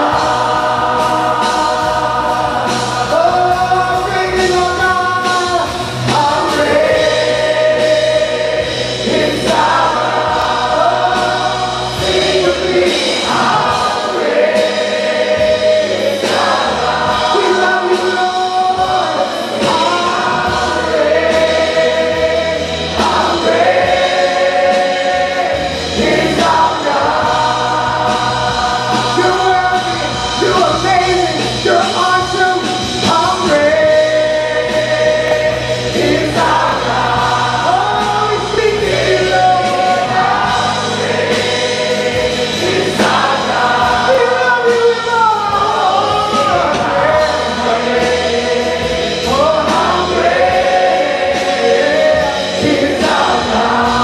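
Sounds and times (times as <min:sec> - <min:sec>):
band with guitars and drums: 0:00.0 - 0:54.0
group singing: 0:00.0 - 0:54.0.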